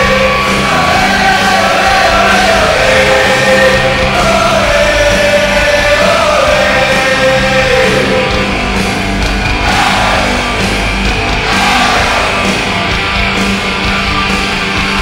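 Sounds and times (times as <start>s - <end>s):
loud rock music with singing: 0.0s - 15.0s.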